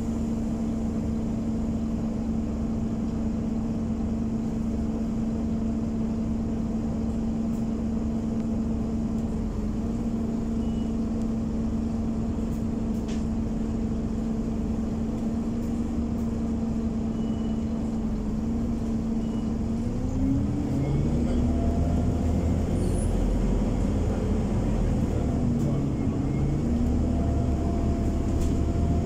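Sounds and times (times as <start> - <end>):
bus engine idling: 0.0 - 29.0
engine cooling fan drone: 0.0 - 29.0.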